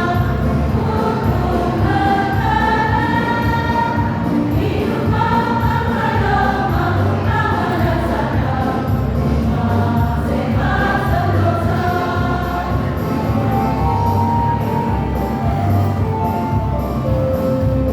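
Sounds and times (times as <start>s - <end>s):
choir singing: 0.0s - 15.2s
backing accompaniment: 0.0s - 17.9s.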